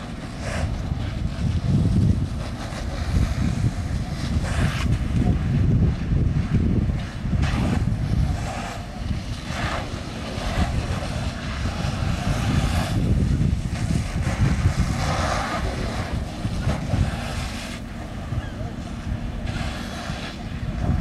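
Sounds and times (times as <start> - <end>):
fire hoses spraying water: 0.0 - 21.0
steady low rumble: 0.0 - 21.0.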